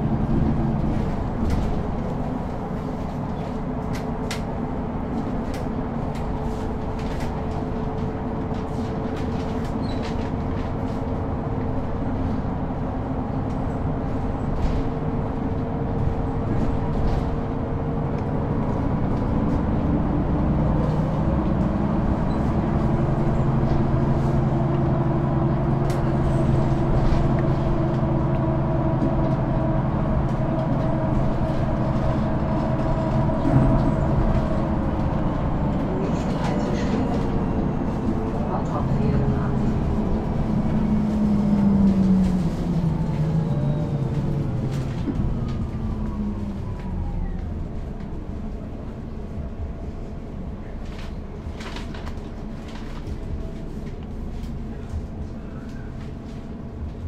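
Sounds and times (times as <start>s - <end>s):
bus engine and gearbox: 0.0s - 57.0s
road rumble: 0.0s - 57.0s.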